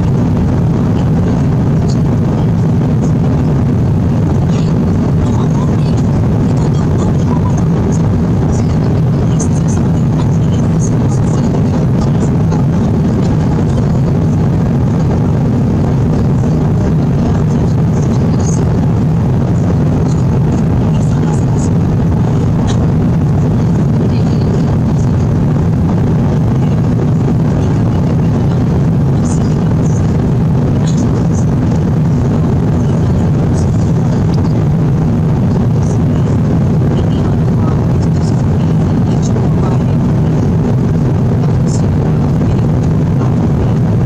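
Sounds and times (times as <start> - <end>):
airplane cabin engine drone: 0.0 - 44.0.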